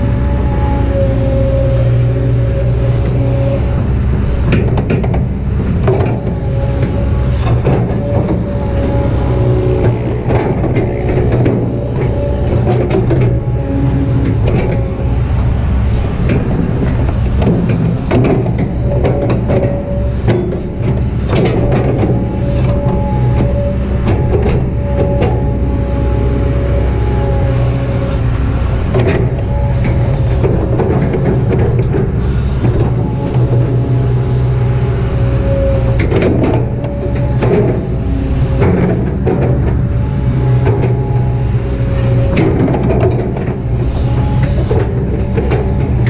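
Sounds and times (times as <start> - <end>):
excavator diesel engine: 0.0 - 46.0
hydraulic whine: 0.0 - 46.0.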